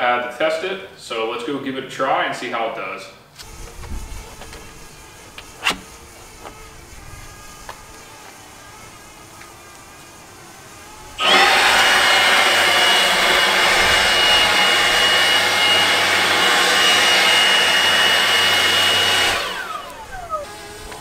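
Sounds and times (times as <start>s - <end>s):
leaf blower with high whine: 3.4s - 21.0s.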